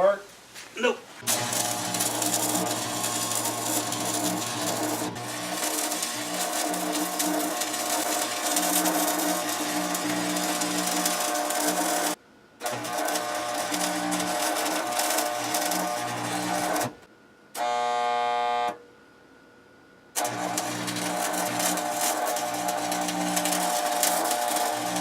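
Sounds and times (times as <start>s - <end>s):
arc welding crackling buzz: 1.2s - 18.8s, 20.2s - 25.0s.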